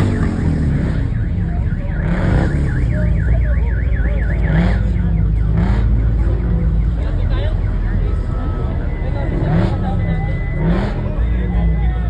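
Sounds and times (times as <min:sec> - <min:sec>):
electronic siren warbling: 0:00.0 - 0:12.0.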